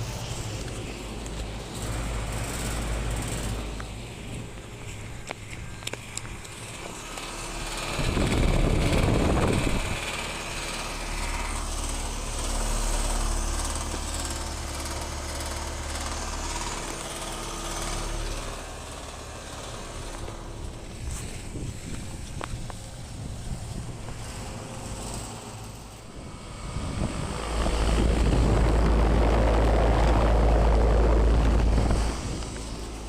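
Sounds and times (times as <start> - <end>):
air conditioning units humming: 0.0 - 33.0
wind noise on microphone: 0.0 - 33.0.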